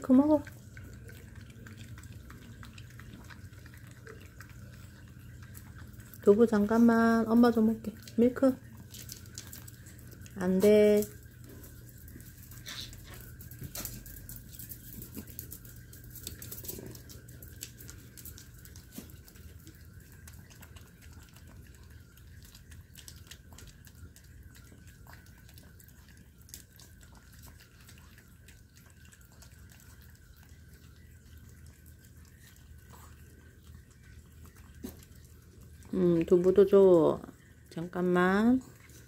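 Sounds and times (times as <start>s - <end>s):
dog licking and wet smacking: 0.0s - 39.0s
steady low hum: 0.0s - 39.0s.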